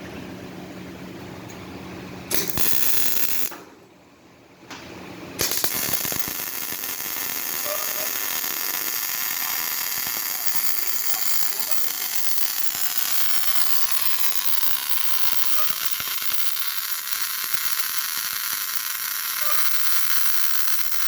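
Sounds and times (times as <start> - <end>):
welding arc crackling hiss: 2.3 - 3.6, 5.4 - 21.0.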